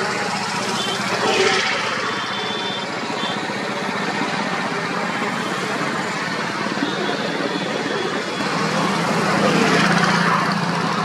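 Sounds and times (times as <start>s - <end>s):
diesel locomotive engine hum: 0.0s - 11.0s.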